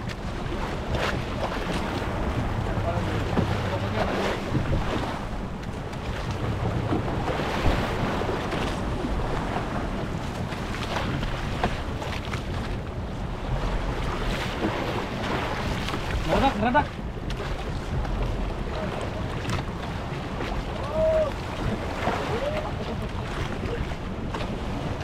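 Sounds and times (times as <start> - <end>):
boat motor running: 0.0 - 25.0
water rushing past hull: 0.0 - 25.0
wind buffeting microphone: 0.0 - 25.0.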